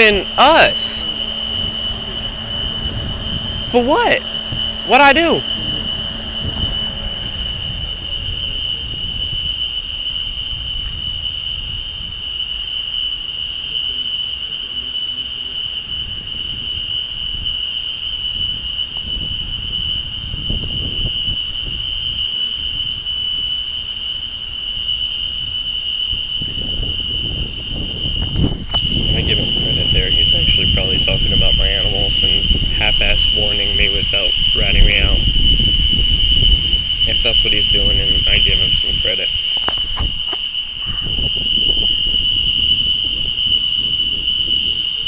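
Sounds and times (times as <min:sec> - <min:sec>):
low rumble of wind: 0:00.0 - 0:14.0, 0:15.4 - 0:45.0
crickets trilling: 0:00.0 - 0:45.0.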